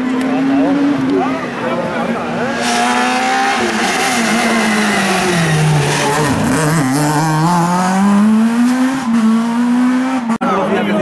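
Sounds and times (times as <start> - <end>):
rally car engine revving: 0.0 - 10.5.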